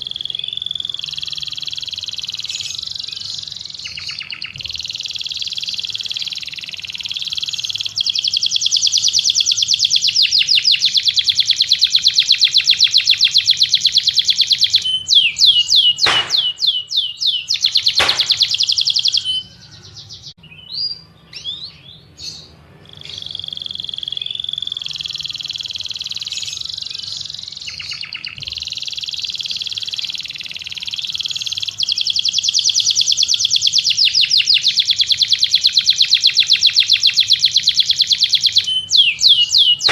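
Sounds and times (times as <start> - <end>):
bird chirps: 0.0 - 39.9
songbird trilling: 0.0 - 39.9
whistled bird notes: 0.0 - 39.9.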